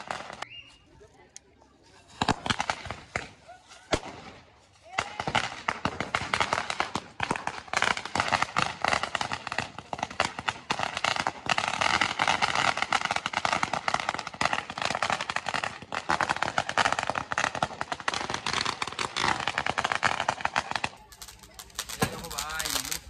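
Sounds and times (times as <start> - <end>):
firecrackers banging: 0.0 - 0.6, 2.0 - 23.0.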